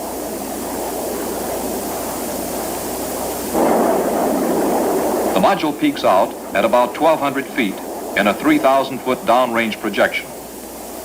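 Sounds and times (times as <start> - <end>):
rocket sled roar: 0.8 - 10.8.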